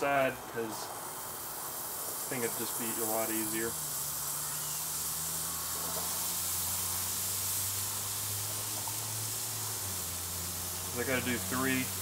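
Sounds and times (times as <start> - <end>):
buns sizzling on grill: 0.0 - 12.0.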